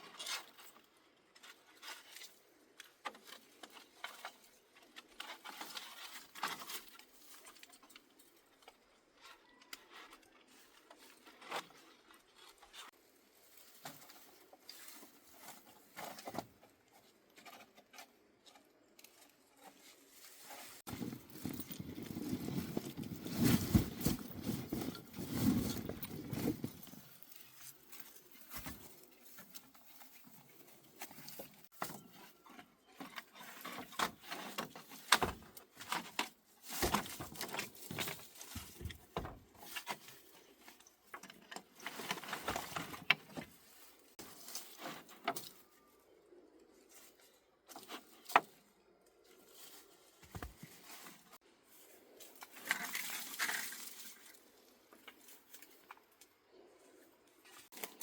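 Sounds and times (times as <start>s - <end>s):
rustling: 0.0s - 58.0s.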